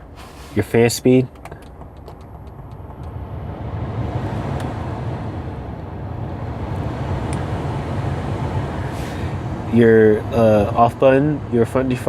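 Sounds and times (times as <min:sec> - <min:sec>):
blower fan rushing: 0:00.0 - 0:12.0
idling engine hum: 0:00.0 - 0:12.0.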